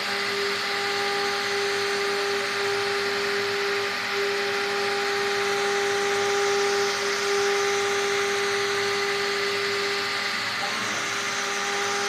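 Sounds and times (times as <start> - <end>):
engraving spindle whining: 0.0 - 12.0.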